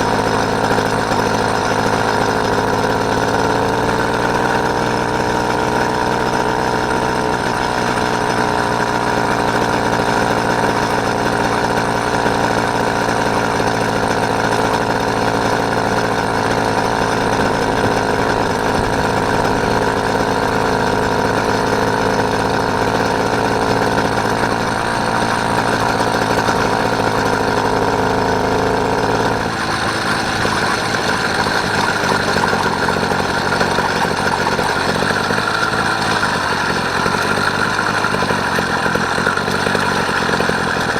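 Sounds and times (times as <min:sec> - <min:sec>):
motorised bicycle engine running: 0:00.0 - 0:40.9.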